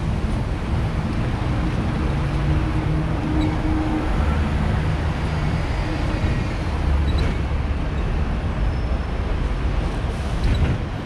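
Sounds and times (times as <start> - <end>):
street traffic: 0.0 - 11.0
tram wheels rumbling on rails: 0.0 - 11.0.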